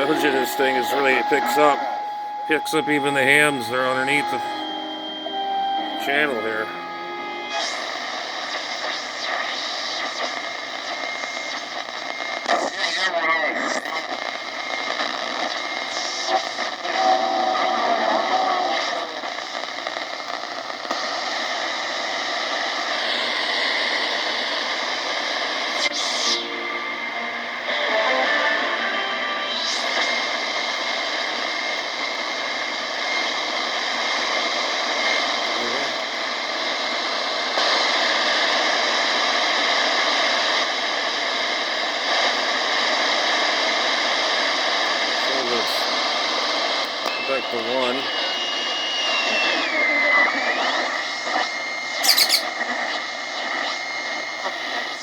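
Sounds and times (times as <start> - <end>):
radio whistling tone: 0.0 - 19.4, 21.0 - 55.0
radio static hiss: 0.0 - 55.0.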